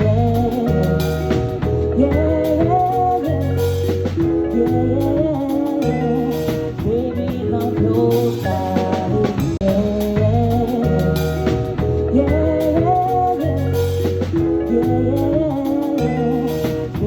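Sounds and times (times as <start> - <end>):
bass line: 0.0 - 17.0
drums: 0.0 - 17.0
melodic lead instrument: 0.0 - 17.0.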